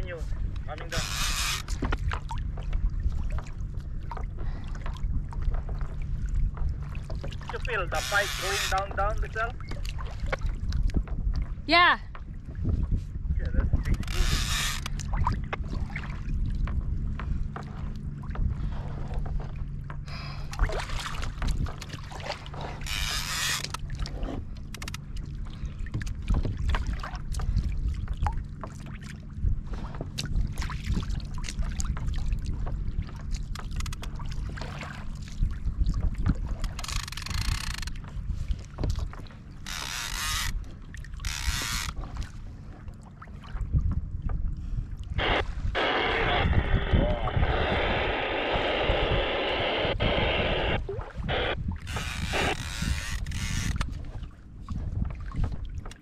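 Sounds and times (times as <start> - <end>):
wind and water hum: 0.0 - 56.0.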